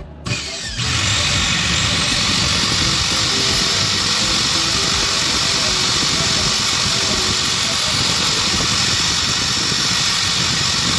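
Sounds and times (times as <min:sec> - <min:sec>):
vacuum cleaner motor whining: 0:00.2 - 0:10.9.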